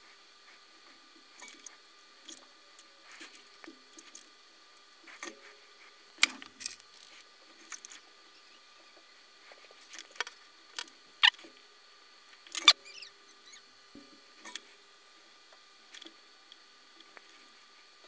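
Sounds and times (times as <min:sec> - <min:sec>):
faint background hum: 0:00.0 - 0:18.0.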